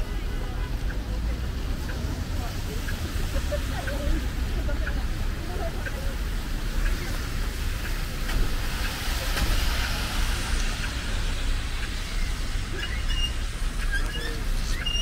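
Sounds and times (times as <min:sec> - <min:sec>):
steady low traffic rumble: 0:00.0 - 0:15.0
tyres hissing on wet road: 0:00.0 - 0:15.0.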